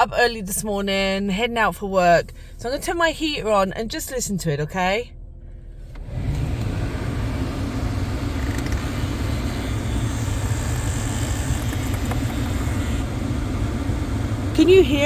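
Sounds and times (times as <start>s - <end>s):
car heater blower fan rumbling: 0.0s - 15.0s.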